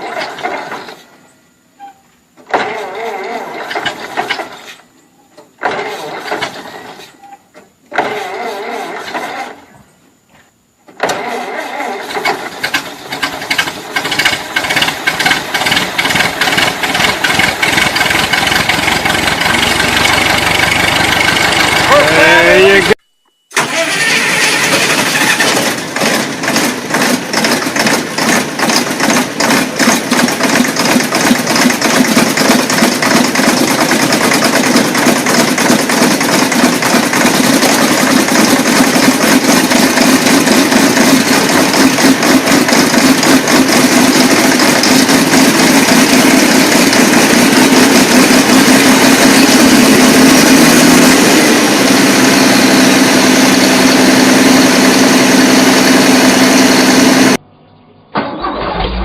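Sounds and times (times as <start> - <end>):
large engine cold-starting: 0.0 - 1.1, 2.4 - 4.8, 5.6 - 7.2, 7.9 - 9.8, 10.9 - 57.4, 58.1 - 59.0.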